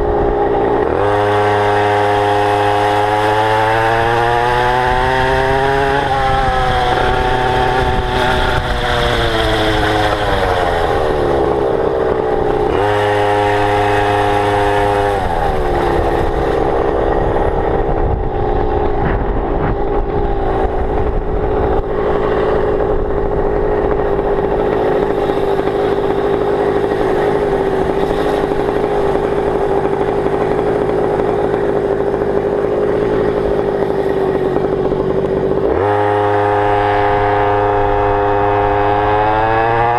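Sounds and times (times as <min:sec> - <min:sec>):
scooter two-stroke engine revving: 0:00.0 - 0:39.9.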